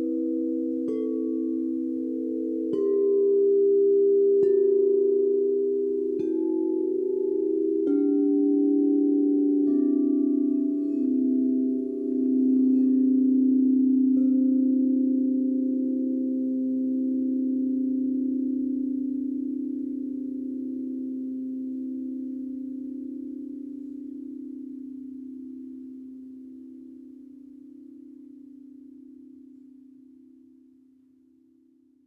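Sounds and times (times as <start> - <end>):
singing bowls ringing: 0.0 - 30.2.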